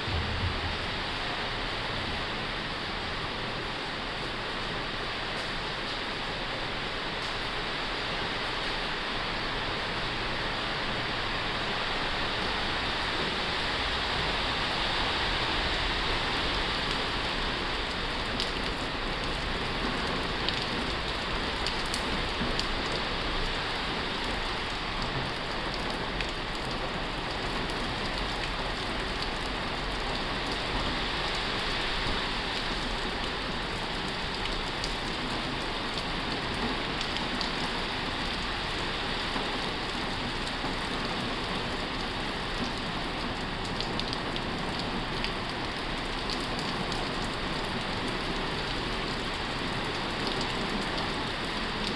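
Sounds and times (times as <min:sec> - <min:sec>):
heavy rain on a tin roof: 0:00.0 - 0:51.9.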